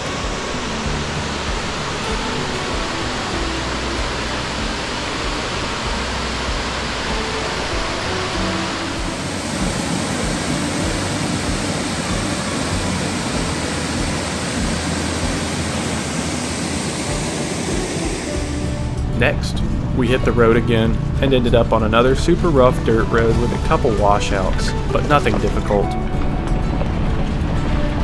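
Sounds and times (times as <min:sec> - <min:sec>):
faint background music: 0:00.0 - 0:28.0
waterfall rushing: 0:00.0 - 0:28.0.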